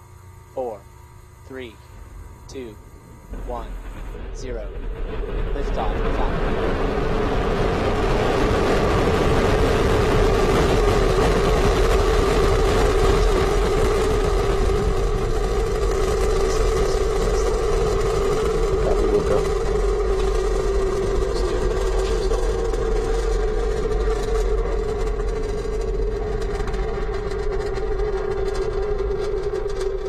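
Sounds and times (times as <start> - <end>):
rocket engines rumbling: 0.0 - 30.0.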